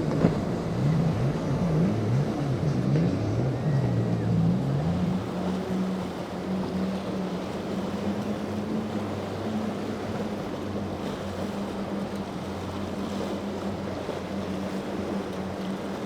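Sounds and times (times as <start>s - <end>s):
motorboat engine running: 0.0s - 16.0s
water noise: 0.0s - 16.0s
wind: 0.0s - 16.0s.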